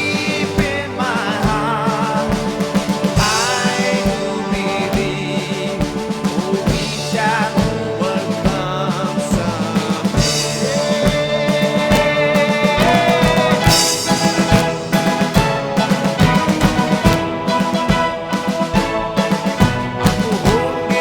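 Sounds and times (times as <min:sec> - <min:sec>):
fast drum kit beat: 0:00.0 - 0:21.0
keyboard melody with gliding notes: 0:00.0 - 0:21.0.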